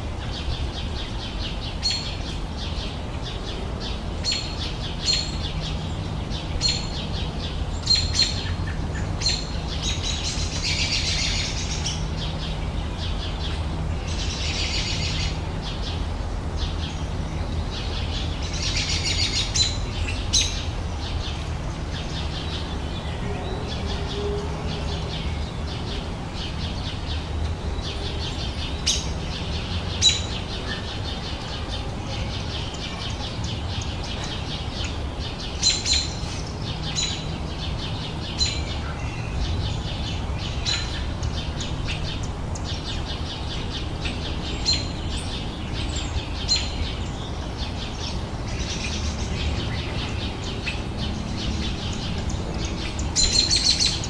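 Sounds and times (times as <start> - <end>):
birds chirping: 0.0 - 54.0
trilled birdsong: 0.0 - 54.0.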